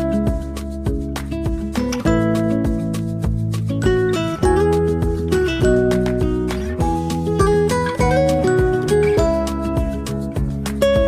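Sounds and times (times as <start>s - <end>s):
plucked guitar-like notes: 0.0s - 11.0s
steady bass line: 0.0s - 11.0s.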